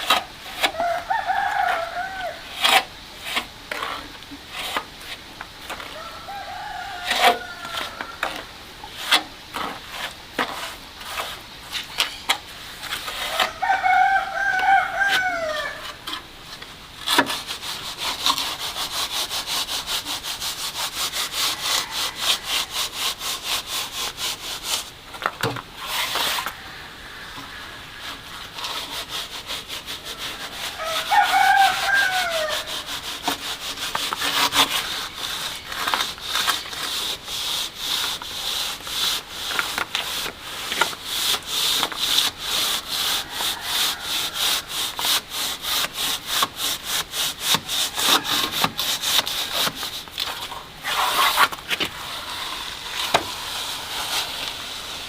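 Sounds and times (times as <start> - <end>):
hand tool scraping a surface: 0.0 - 16.3, 17.0 - 26.7, 27.4 - 55.0.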